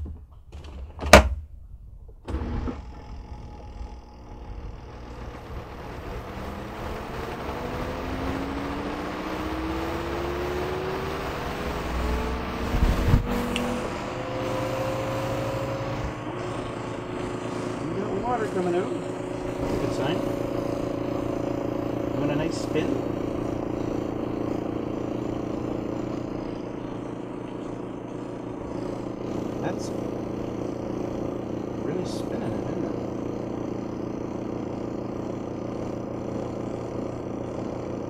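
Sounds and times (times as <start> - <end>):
spin motor whine rising: 2.2 - 38.0.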